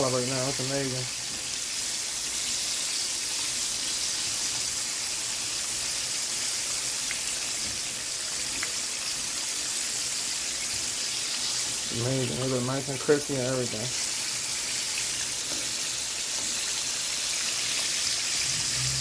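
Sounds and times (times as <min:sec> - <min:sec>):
deep-frying sizzle: 0:00.0 - 0:19.0.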